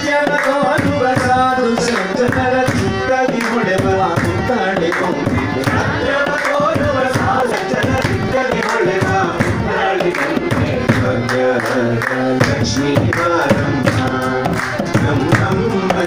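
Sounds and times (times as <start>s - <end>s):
group singing: 0.0s - 16.0s
hands clapping: 0.3s - 16.0s.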